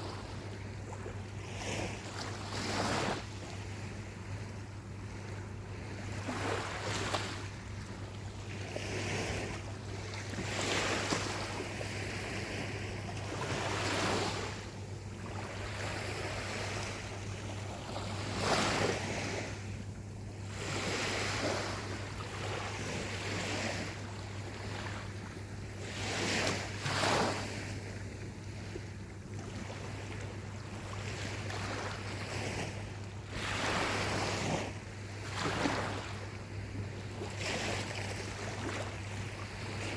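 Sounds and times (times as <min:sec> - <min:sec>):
ocean waves breaking: 0:00.0 - 0:25.2, 0:25.8 - 0:27.8, 0:28.6 - 0:36.3.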